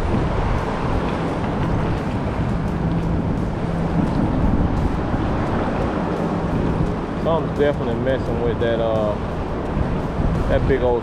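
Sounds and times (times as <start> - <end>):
water noise: 0.0 - 11.0
wind on microphone: 0.0 - 11.0.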